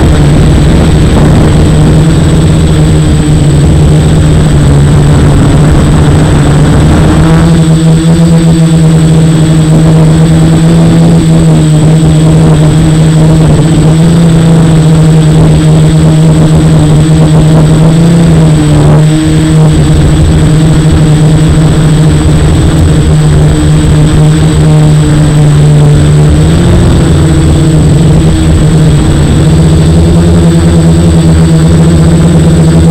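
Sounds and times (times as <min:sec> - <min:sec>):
drone buzzing hum: 0:00.0 - 0:32.9.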